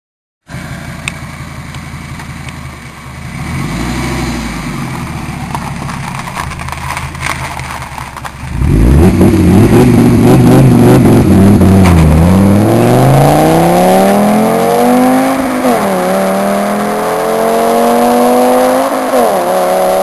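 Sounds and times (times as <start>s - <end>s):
car engine revving: 0.5s - 20.0s.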